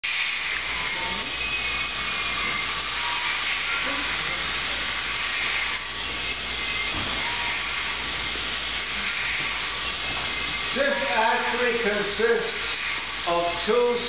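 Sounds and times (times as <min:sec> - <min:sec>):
machinery running: 0:00.0 - 0:14.0
steam hissing: 0:00.0 - 0:14.0.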